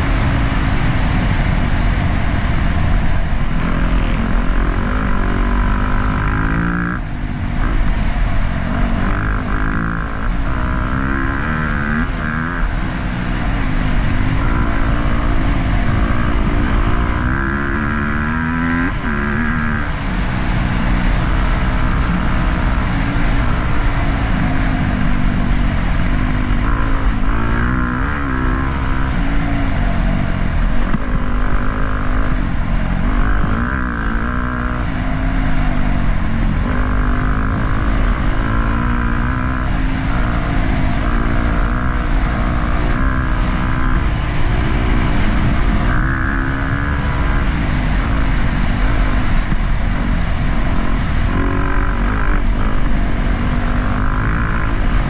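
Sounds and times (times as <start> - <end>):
dirt bike engine revving: 0.0 - 55.0
wind noise on microphone: 0.0 - 55.0.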